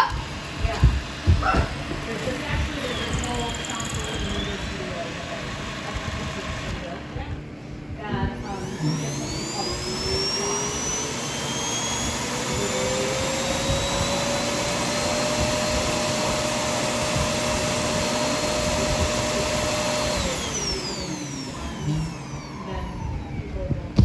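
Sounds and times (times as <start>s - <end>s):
suction fan rushing whine: 0.0s - 24.0s.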